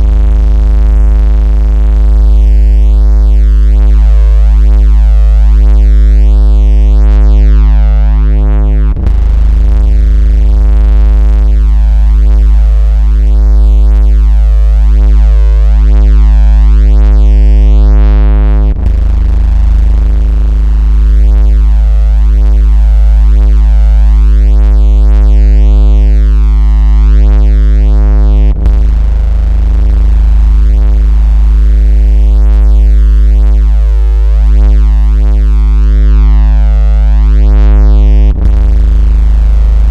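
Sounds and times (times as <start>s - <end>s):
low electronic buzzing tone: 0.0s - 39.9s.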